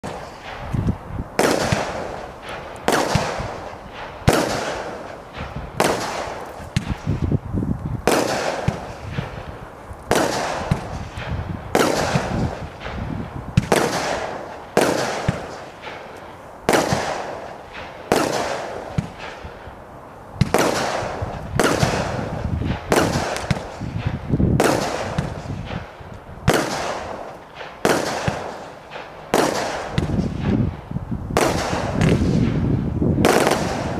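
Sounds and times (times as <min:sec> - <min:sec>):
firework bangs: 0:00.0 - 0:07.4, 0:08.0 - 0:19.8, 0:20.4 - 0:33.9.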